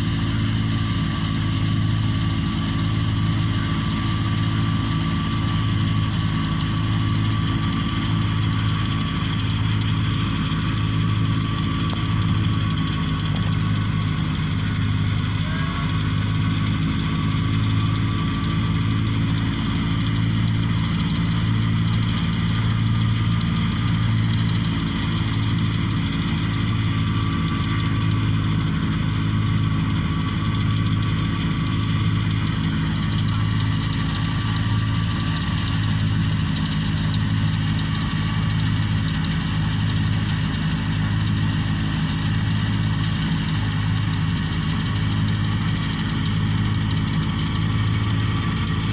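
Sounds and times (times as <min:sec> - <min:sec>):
engine running: 0:00.0 - 0:48.9.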